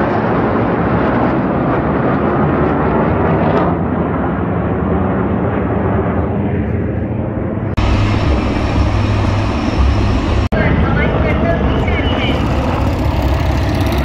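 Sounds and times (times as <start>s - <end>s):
military aircraft flying overhead: 0.0s - 14.0s.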